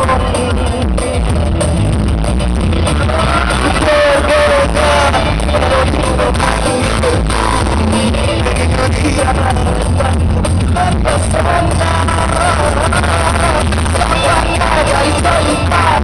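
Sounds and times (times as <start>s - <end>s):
man singing through speakers: 0.0s - 1.7s, 2.7s - 16.0s
backing music: 0.0s - 16.0s.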